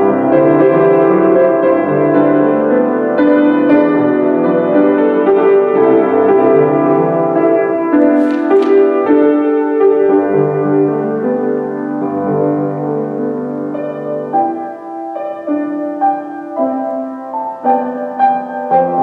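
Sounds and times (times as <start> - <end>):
grand piano chords and notes: 0.0 - 19.0.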